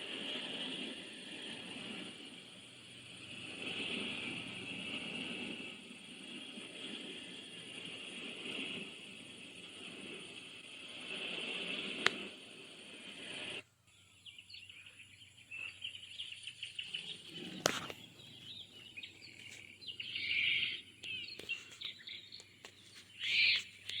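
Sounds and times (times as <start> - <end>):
insects chirping: 0.0 - 24.0
recorded birdsong: 0.0 - 24.0
steady hiss: 0.0 - 24.0.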